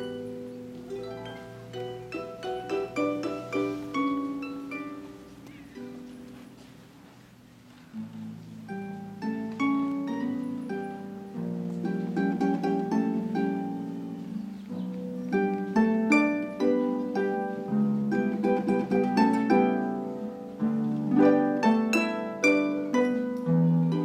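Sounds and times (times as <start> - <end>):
harp plucked notes and chords: 0.0 - 6.8, 8.0 - 24.0.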